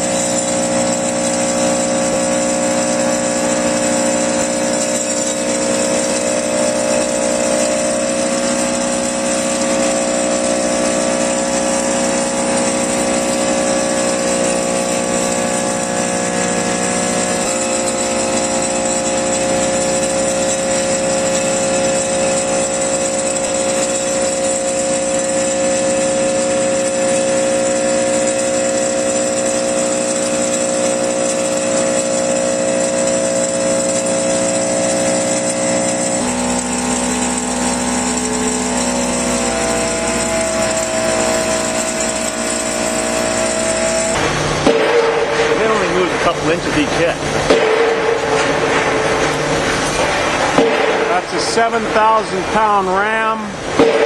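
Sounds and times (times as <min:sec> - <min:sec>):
pile driver machine hum: 0:00.0 - 0:54.0.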